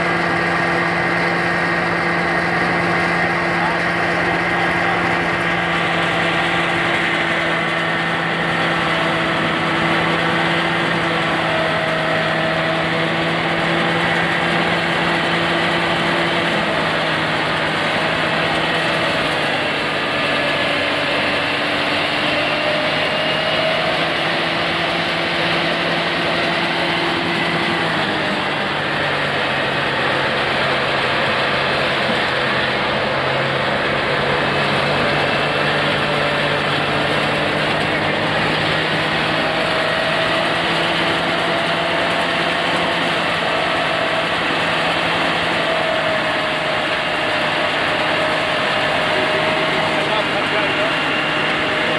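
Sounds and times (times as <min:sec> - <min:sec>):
rice thresher engine hum: 0:00.0 - 0:51.9.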